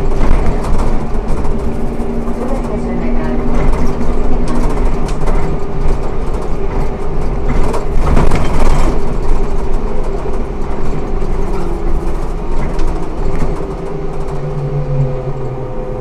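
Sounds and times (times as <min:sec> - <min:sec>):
road and body noise: 0:00.0 - 0:16.0
trolleybus electric hum: 0:00.0 - 0:16.0.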